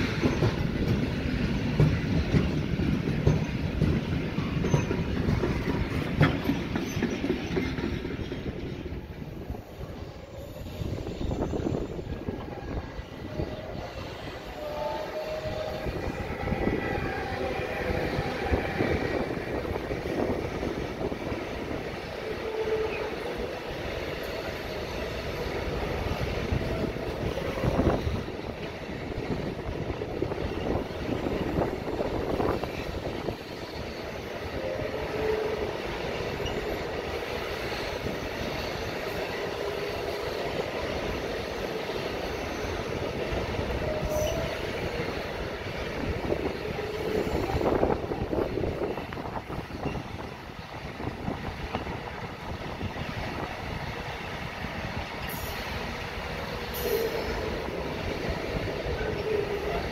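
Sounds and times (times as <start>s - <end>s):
electric locomotive passing: 0.0s - 59.9s
train wheels rumbling on rails: 0.0s - 59.9s.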